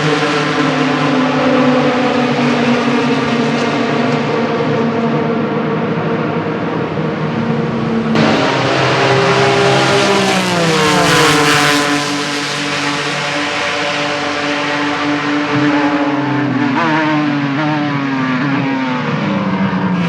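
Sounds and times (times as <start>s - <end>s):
racing car engines passing by: 0.0s - 20.0s.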